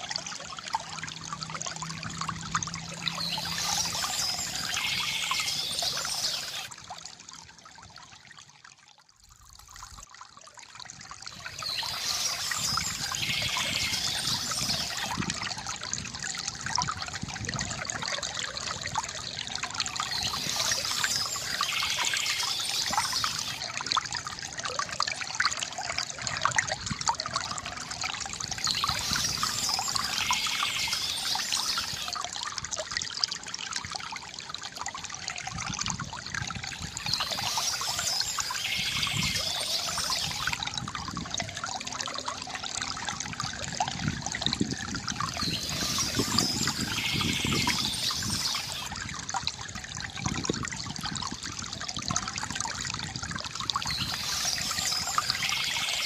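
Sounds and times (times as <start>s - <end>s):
fountain water gurgling into basin: 0.0s - 56.0s.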